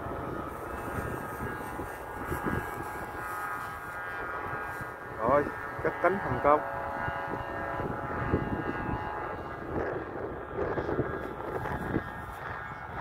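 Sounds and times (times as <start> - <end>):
steady hum of even tones: 0.0 - 13.0
wind buffeting microphone: 0.0 - 13.0.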